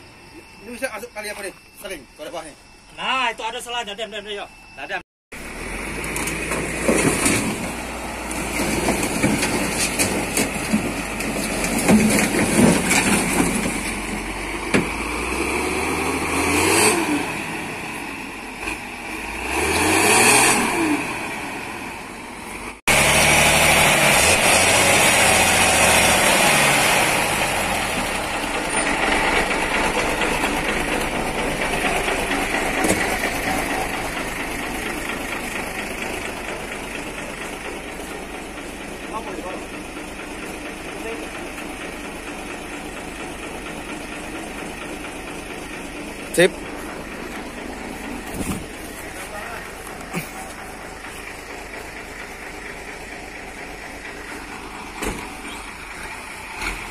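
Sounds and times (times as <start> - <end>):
diesel truck engine revving: 5.3 - 56.9.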